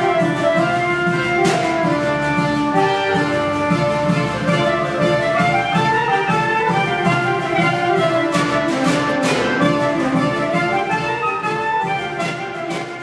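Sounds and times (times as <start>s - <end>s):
accordion: 0.0s - 13.0s
clarinet: 0.0s - 13.0s
double bass: 0.0s - 13.0s
drum kit: 0.0s - 13.0s.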